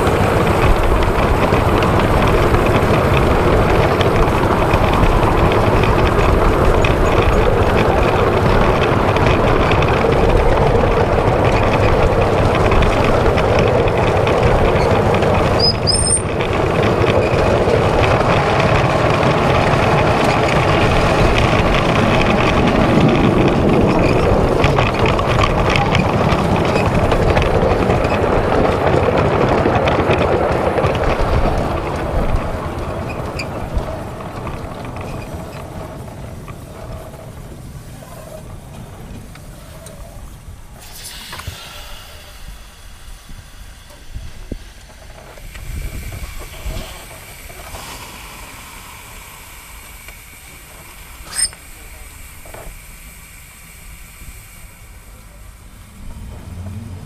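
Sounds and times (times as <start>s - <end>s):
steam locomotive running: 0.0s - 57.0s.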